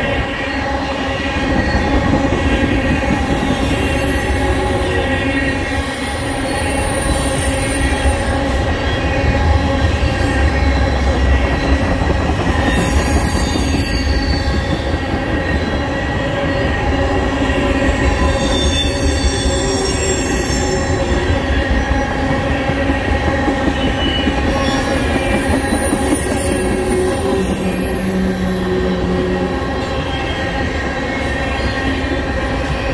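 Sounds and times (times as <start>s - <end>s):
train wheels rumbling on rail: 0.0s - 32.9s
wheels squealing and ringing: 0.1s - 22.6s, 23.3s - 32.9s.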